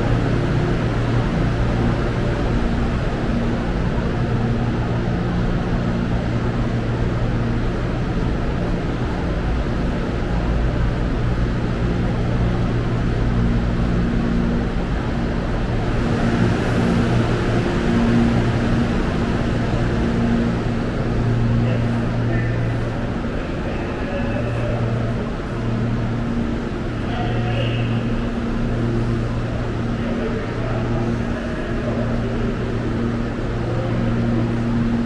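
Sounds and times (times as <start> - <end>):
electric train humming: 0.0 - 35.0.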